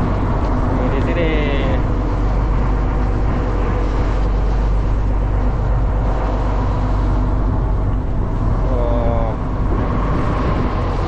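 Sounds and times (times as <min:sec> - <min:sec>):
boat engine droning: 0:00.0 - 0:11.0
water rushing: 0:00.0 - 0:11.0
wind rushing: 0:00.0 - 0:11.0.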